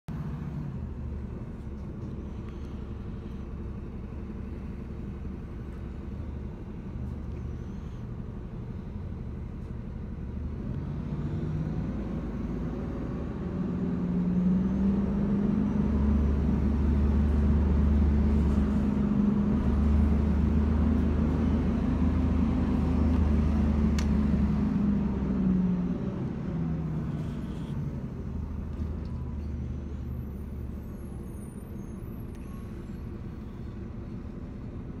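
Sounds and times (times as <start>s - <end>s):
bus engine droning: 0.1s - 35.0s.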